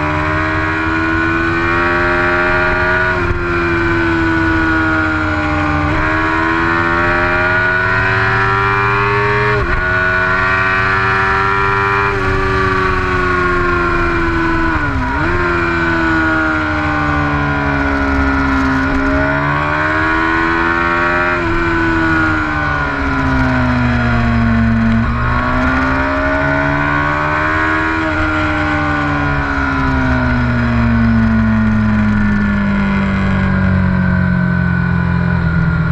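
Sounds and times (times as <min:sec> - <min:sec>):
vehicle engine revving: 0:00.0 - 0:35.9
wind and road noise: 0:00.0 - 0:35.9.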